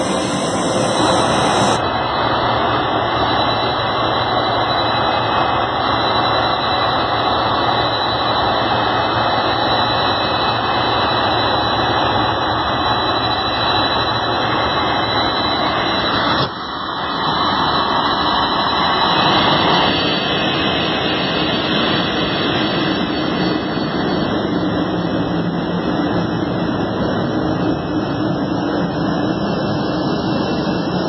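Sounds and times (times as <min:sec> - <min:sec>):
jet engines taxiing: 0:00.0 - 0:31.0.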